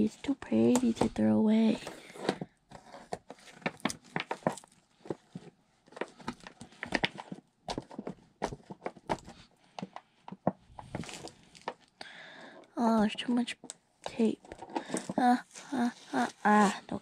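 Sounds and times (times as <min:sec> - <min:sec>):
cardboard and plastic packaging handled: 0:00.0 - 0:12.0, 0:12.9 - 0:17.0.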